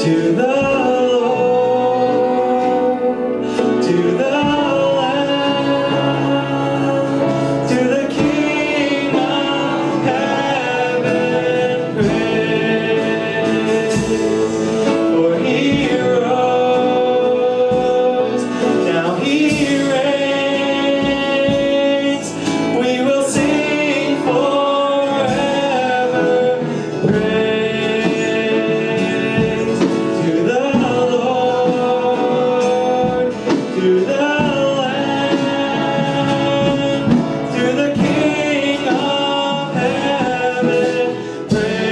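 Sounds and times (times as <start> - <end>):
band playing: 0.0 - 41.9
voices singing praise song: 0.0 - 41.9.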